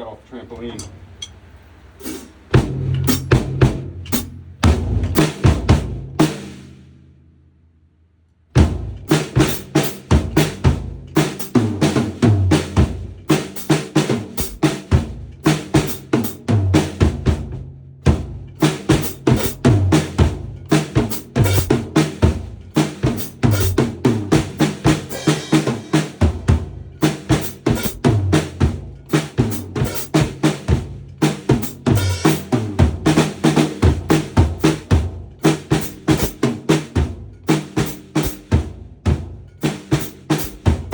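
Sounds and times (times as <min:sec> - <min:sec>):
drum kit playing: 0:00.0 - 0:07.2, 0:08.5 - 0:40.9.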